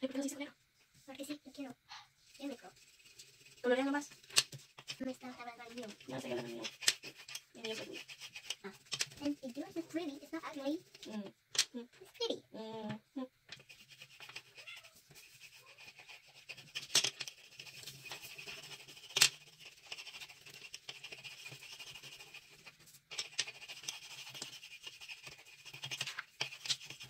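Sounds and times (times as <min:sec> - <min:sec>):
crayons scribbling on paper: 0:02.3 - 0:11.2, 0:13.5 - 0:27.0.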